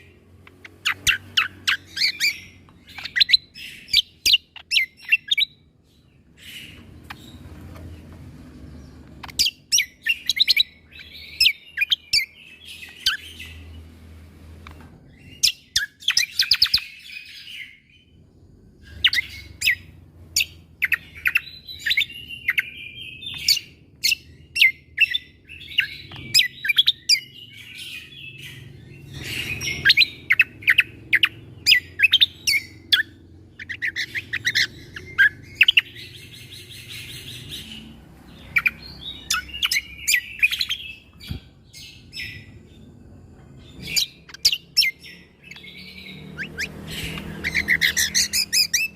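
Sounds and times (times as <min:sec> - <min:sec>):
songbird singing rapid notes: 0:00.0 - 0:08.0, 0:08.7 - 0:13.9, 0:18.8 - 0:48.9.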